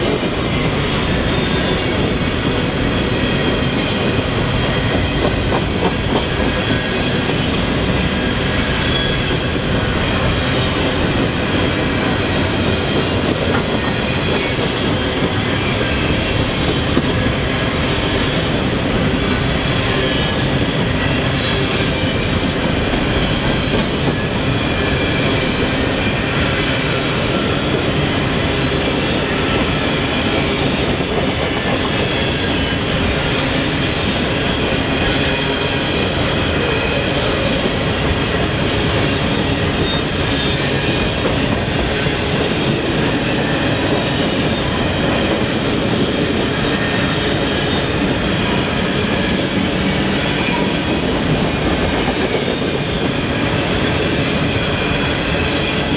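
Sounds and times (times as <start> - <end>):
freight train wheels rumbling: 0.0 - 55.9
wheels clacking over rail joints: 0.0 - 55.9.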